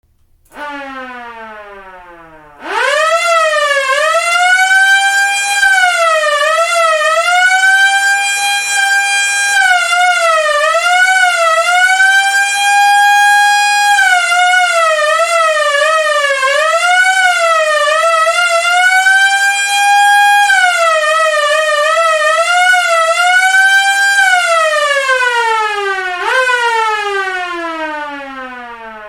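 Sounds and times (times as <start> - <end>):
police siren wailing: 0.5 - 29.0.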